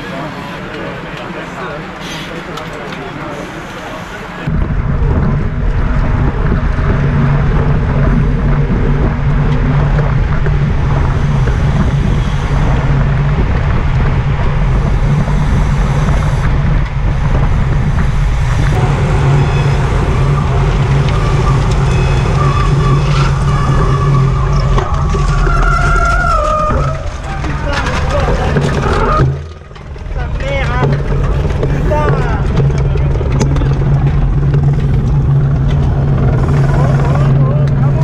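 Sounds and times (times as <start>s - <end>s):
low drone: 0.0s - 38.0s
wind and road noise: 0.0s - 38.0s.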